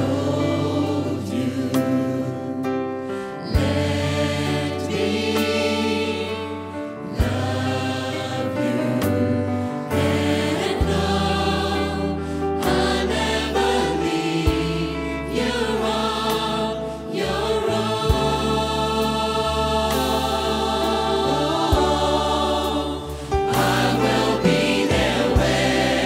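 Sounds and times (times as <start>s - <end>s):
gospel choir singing: 0.0s - 26.0s.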